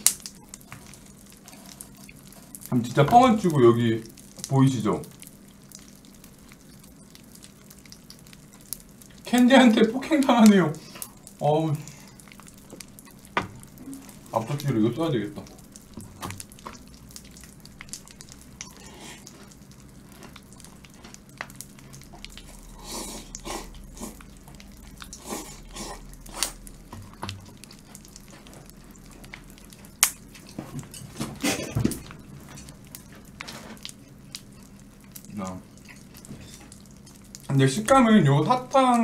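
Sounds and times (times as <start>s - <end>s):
chewing and crunching fried chicken: 0.0s - 39.0s
popping candy crackling: 0.0s - 39.0s.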